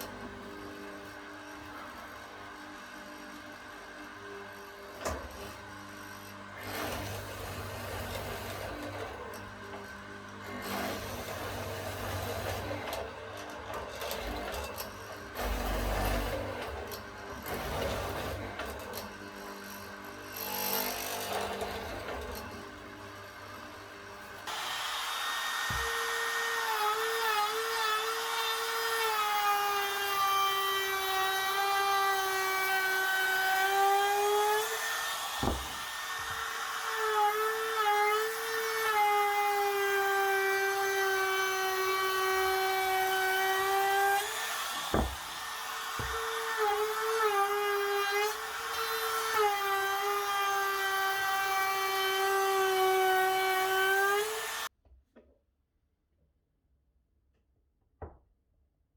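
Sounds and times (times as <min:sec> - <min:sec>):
power tool motor cutting wood: 0:00.0 - 0:54.7.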